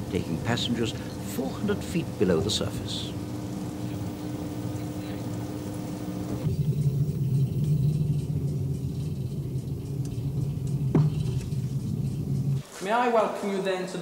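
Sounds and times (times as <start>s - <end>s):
steady hum: 0.0s - 13.2s.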